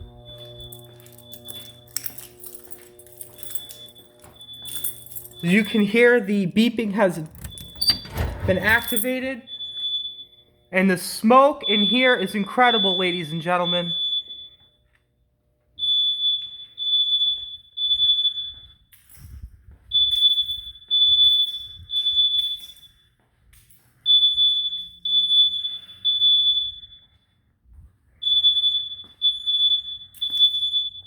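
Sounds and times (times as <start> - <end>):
smoke alarm beeping: 0.0 - 31.0.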